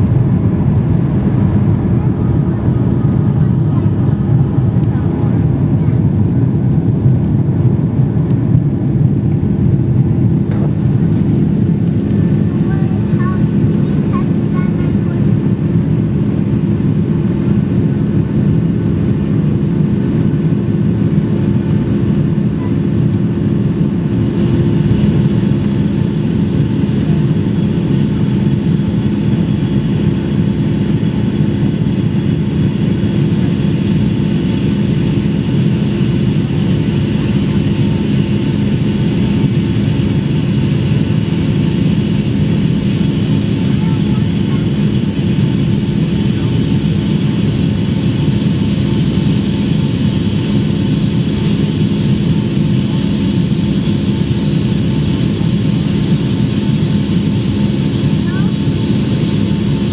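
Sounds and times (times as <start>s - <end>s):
jet engines and airflow rumble: 0.0s - 59.9s.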